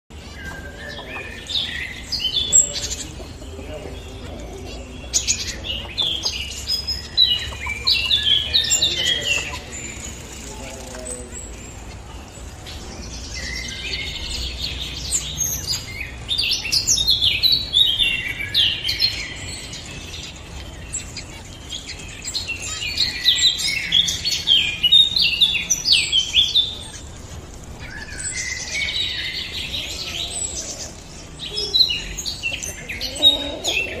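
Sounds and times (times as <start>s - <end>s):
finches chirping and twittering: 0.1s - 34.0s.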